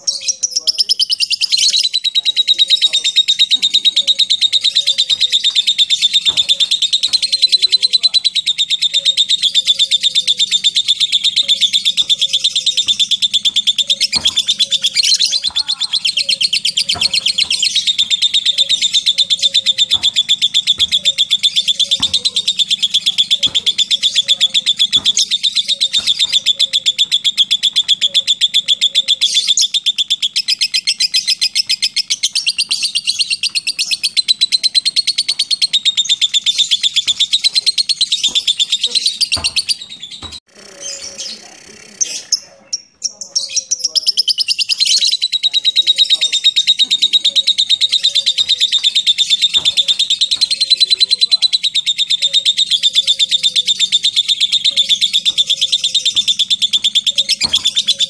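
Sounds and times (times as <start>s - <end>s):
lovebird chattering trill: 0.0s - 58.0s.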